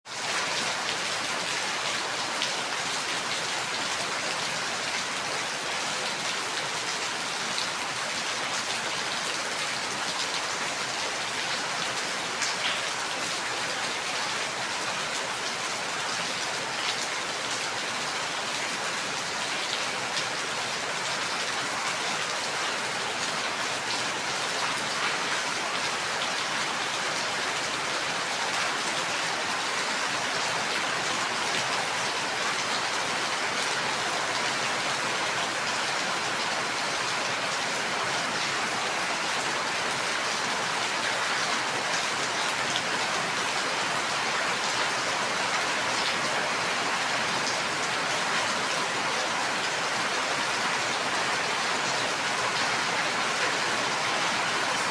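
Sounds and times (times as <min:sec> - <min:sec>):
steady rain hiss: 0:00.3 - 0:54.9.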